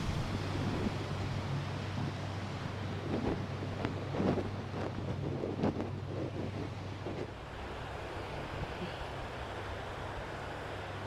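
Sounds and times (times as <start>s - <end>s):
wind across microphone: 0.0s - 9.4s
waves washing in: 0.0s - 11.0s.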